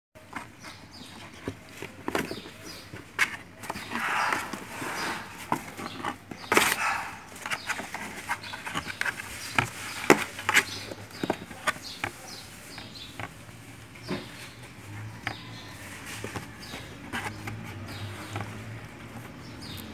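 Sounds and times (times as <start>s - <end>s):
kitten claws scratching cardboard: 0.2s - 19.9s.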